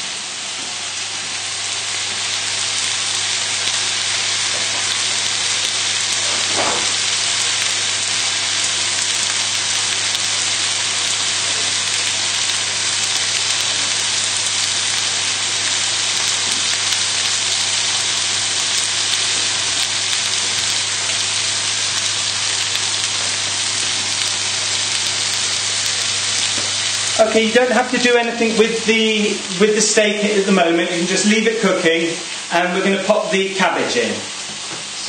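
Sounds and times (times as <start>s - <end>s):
steaks sizzling in a pan: 0.1s - 35.0s.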